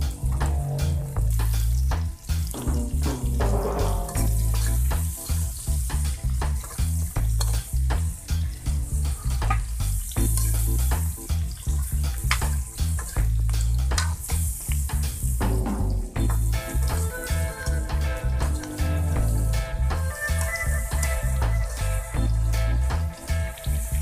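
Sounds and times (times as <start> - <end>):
low repeating beat: 0.0 - 24.0
potatoes sizzling in hot oil: 0.0 - 24.0.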